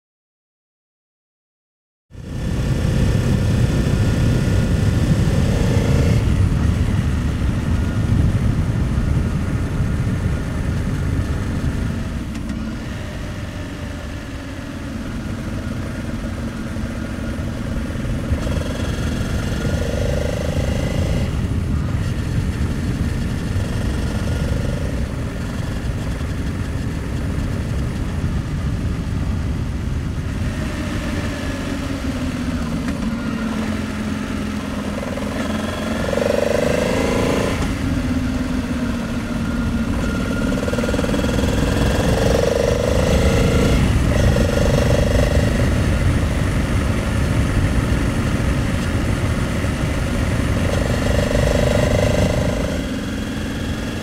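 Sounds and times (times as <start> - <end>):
motorcycle engine accelerating: 2.1 - 54.0
wind rumble: 2.1 - 54.0.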